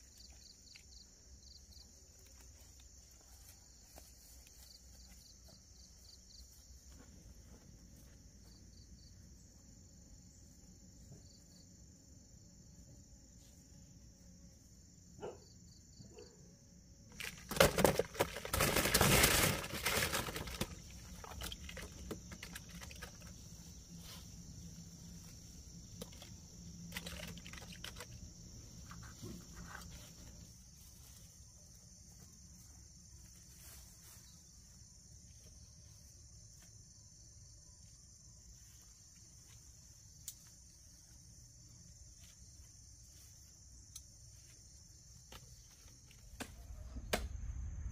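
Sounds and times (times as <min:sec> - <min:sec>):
insect chirring: 0:00.0 - 0:07.0, 0:13.8 - 0:47.9.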